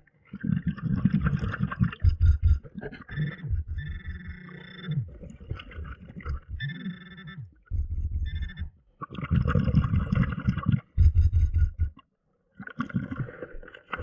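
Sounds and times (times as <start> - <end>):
muffled underwater rumbling: 0.0 - 12.0
underwater bubbling: 0.0 - 14.0.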